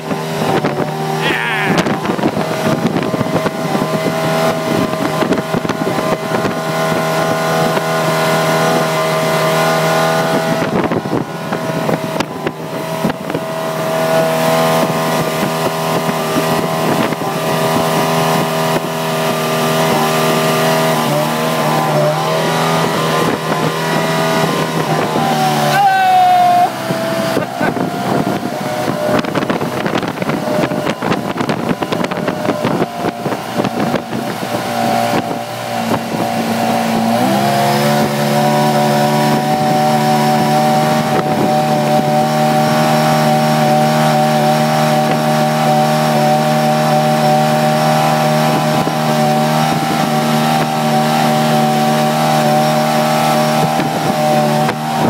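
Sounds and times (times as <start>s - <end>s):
jet boat engine: 0.0s - 55.0s
water and wind noise: 0.0s - 55.0s.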